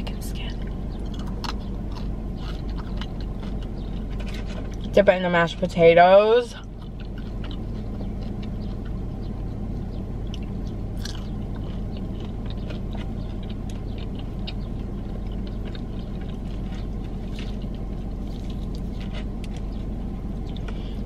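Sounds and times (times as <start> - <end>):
steady low hum: 0.0 - 21.0
chewing crispy fried chicken: 0.9 - 5.0, 6.5 - 21.0.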